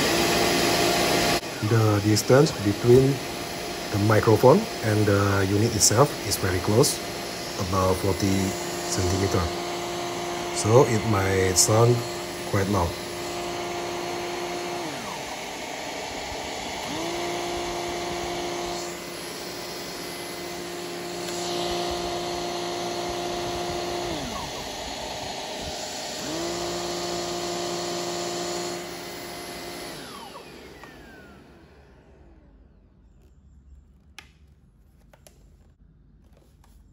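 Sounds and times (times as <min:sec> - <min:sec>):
vacuum cleaner suction and motor hum: 0:00.0 - 0:35.4.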